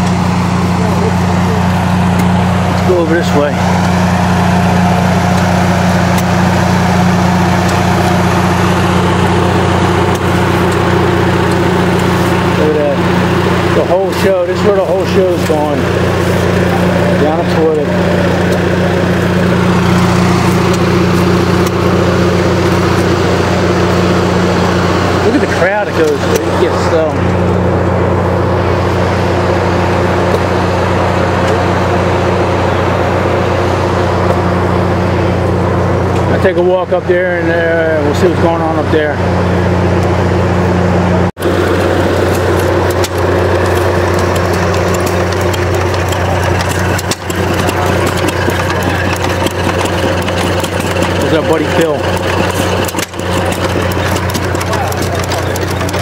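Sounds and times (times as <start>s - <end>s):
generator engine running: 0.0s - 56.0s.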